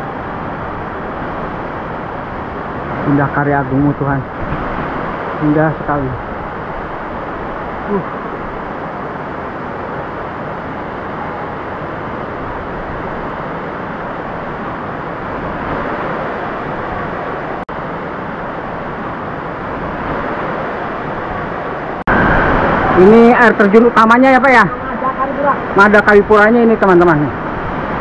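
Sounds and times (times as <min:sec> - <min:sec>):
waterfall rushing: 0:00.1 - 0:28.0.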